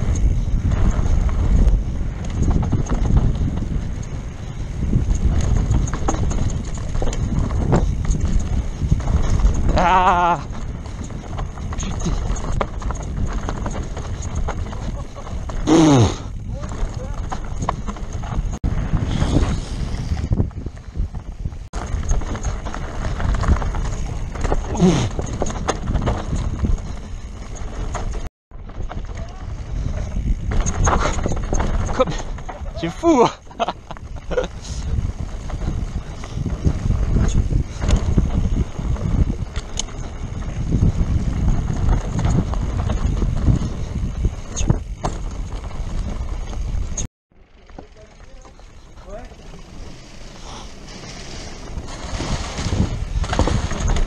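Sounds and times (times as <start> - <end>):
tyres crunching over loose stones: 0.0 - 15.8, 16.4 - 18.6, 20.0 - 54.0
wind buffeting microphone: 0.0 - 47.1, 48.7 - 54.0
bike frame and chain rattling: 0.0 - 54.0.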